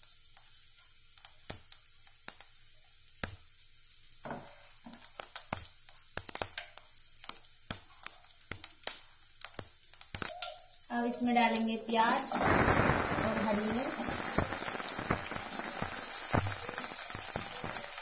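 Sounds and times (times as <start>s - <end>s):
sharp pops and crackles: 0.0s - 10.9s, 11.5s - 18.0s
spices sizzling in hot oil: 0.0s - 18.0s.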